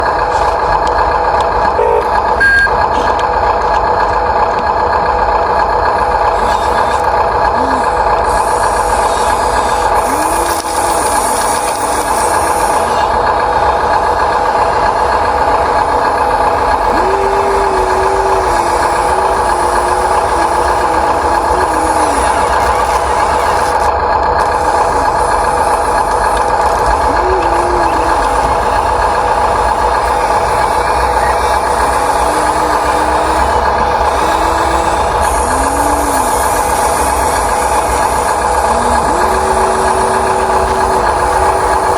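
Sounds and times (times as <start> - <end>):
small electric motors whining: 0.0 - 41.9
low wavering motor tone: 4.4 - 41.9.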